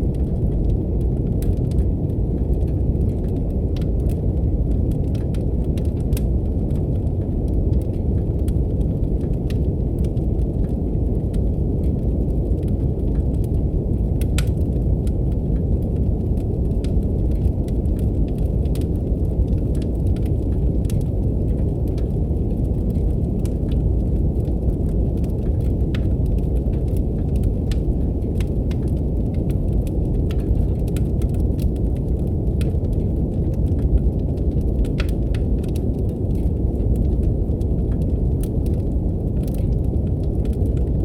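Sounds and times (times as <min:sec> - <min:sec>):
brown noise rumble: 0:00.0 - 0:41.0
wood fire crackling: 0:00.0 - 0:41.0.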